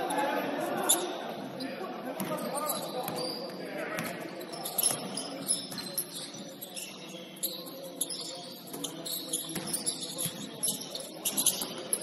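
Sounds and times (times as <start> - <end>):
murmur of voices: 0.0 - 12.0
shoes squeaking on gym floor: 0.8 - 12.0.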